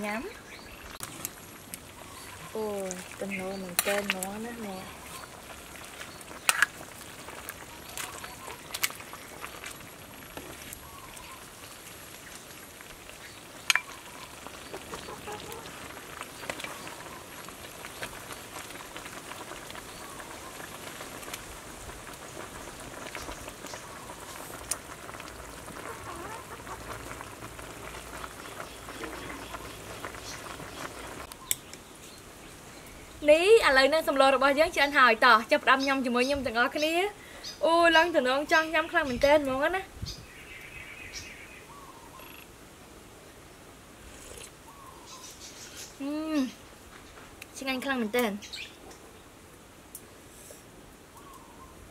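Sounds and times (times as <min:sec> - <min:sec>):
faint crackle and hiss: 0:00.0 - 0:51.9.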